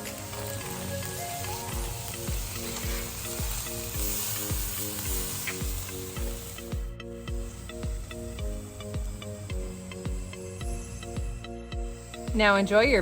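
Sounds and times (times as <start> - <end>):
food sizzling on a griddle: 0.0 - 11.2
background music with steady beat: 0.0 - 13.0.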